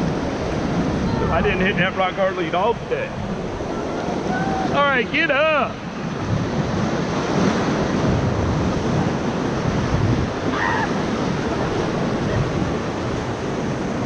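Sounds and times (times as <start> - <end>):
whitewater rushing: 0.0 - 14.0
wind noise on microphone: 0.0 - 14.0.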